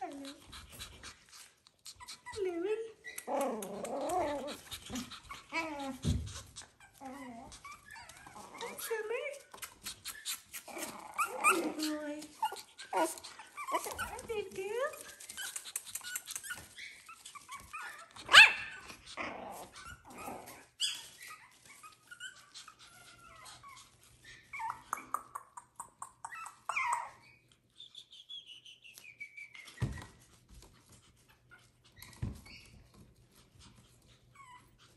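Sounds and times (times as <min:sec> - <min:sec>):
puppies yipping and whimpering: 0:03.0 - 0:14.3, 0:15.0 - 0:30.3, 0:30.9 - 0:34.9.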